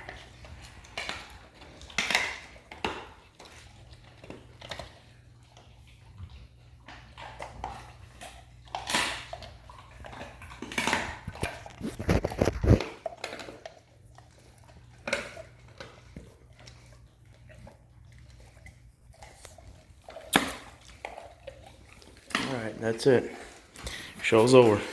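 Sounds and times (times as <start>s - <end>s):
dogs crunching treats: 0.0s - 24.9s.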